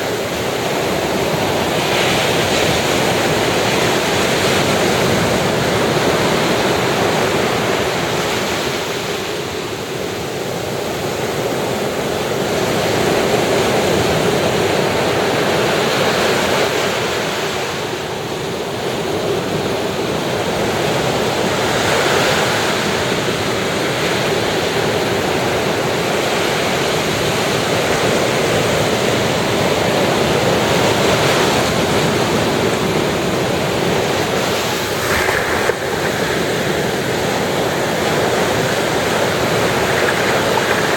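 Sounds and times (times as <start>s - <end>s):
ocean surf on sandy beach: 0.0s - 40.9s.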